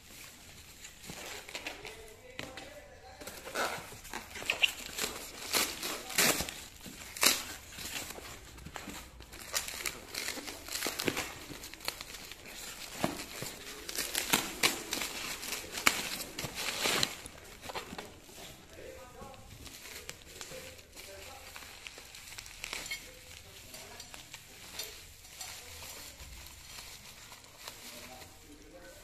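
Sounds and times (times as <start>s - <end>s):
plastic wrapping crinkling: 0.0s - 29.0s.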